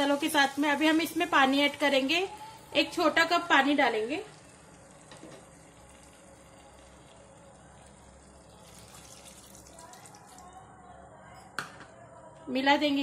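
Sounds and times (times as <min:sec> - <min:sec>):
water pouring into a pot: 0:00.0 - 0:10.7.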